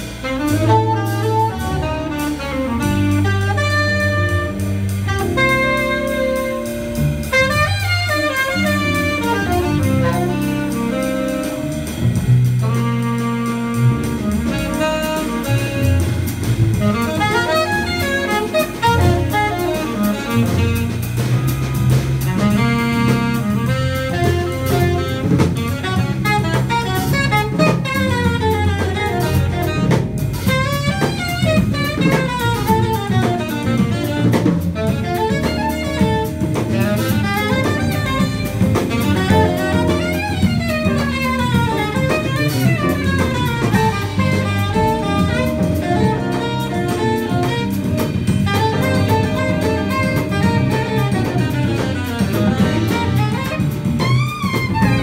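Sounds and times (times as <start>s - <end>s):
drum kit: 0.0s - 55.0s
saxophone melody: 0.0s - 55.0s
walking bass line: 0.0s - 55.0s.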